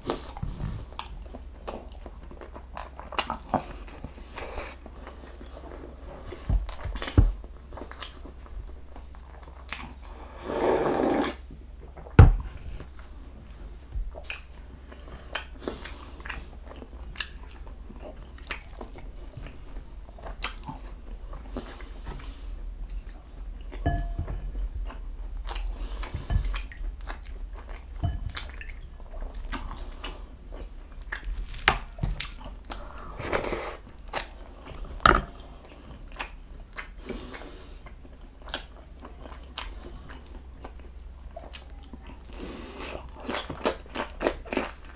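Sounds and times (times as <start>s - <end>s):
close chewing and crunching: 0.0s - 10.4s, 12.8s - 44.9s.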